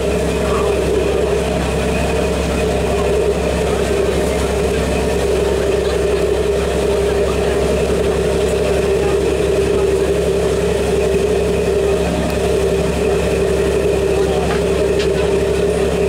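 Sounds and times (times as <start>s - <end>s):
ferry engine droning: 0.0s - 16.0s.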